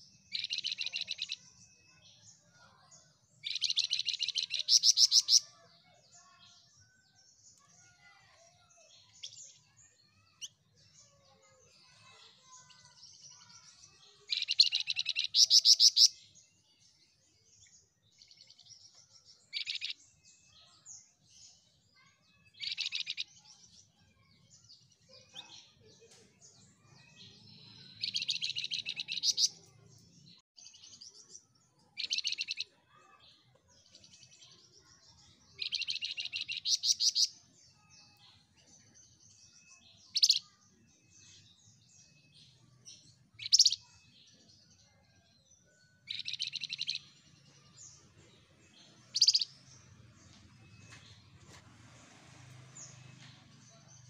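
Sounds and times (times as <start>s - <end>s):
songbird singing trilled phrases: 0.0s - 51.2s
soft bird twittering: 0.0s - 51.4s.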